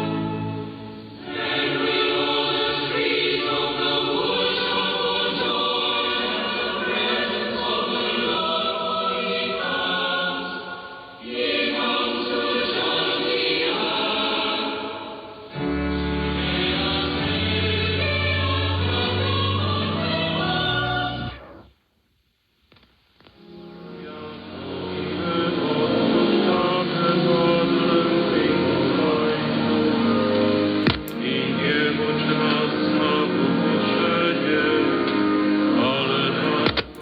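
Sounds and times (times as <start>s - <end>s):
choir singing a hymn: 0.0s - 21.4s, 23.8s - 37.0s.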